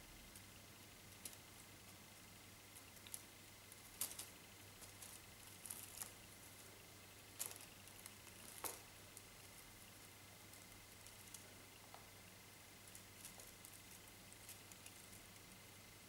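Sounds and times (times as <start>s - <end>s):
kittens tapping and rustling: 2.7s - 15.8s.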